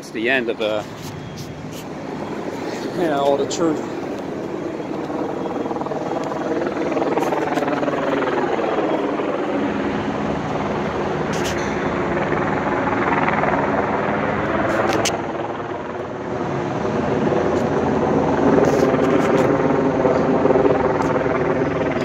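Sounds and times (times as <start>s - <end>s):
helicopter rotor beating: 0.0s - 22.0s.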